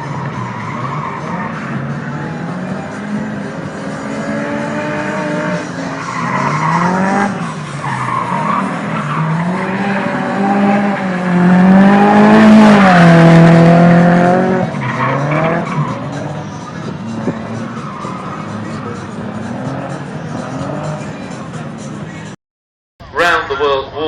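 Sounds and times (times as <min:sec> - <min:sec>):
engine accelerating hard: 0:00.0 - 0:22.3.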